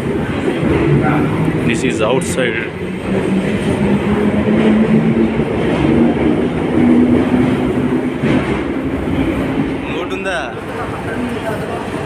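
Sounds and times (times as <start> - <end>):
underground train rumbling on rails: 0.0 - 12.0.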